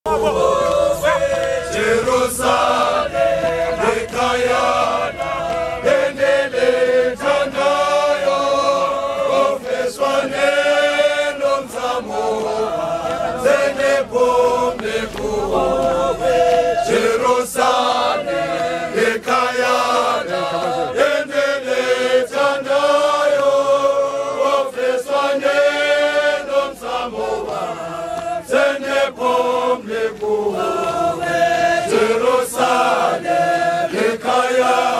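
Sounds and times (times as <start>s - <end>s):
group singing a hymn: 0.1s - 34.9s.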